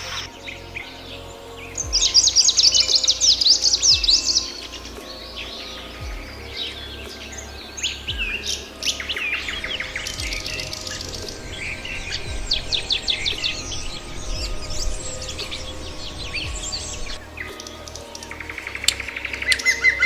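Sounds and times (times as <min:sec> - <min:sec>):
birds chirping and trilling: 0:00.0 - 0:20.0
low rumble: 0:00.0 - 0:20.0.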